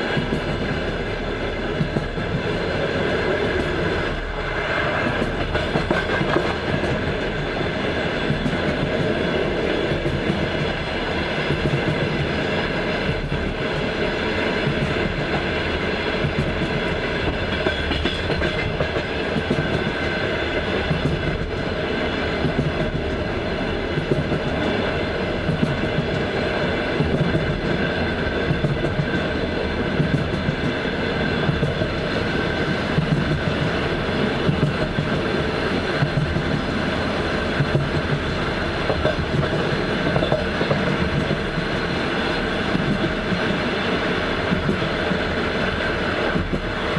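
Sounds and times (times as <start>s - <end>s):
train wheels clattering: 0.0s - 21.7s, 23.9s - 46.9s.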